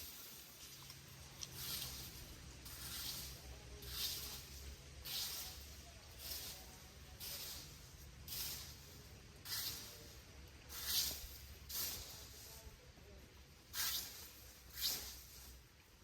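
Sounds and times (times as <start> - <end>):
hissing scraping strokes: 1.4 - 12.7, 13.7 - 15.6.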